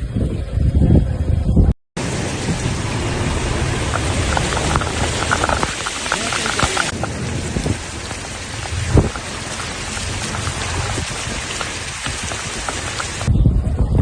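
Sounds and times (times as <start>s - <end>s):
heavy rain pelting down: 2.0s - 13.3s.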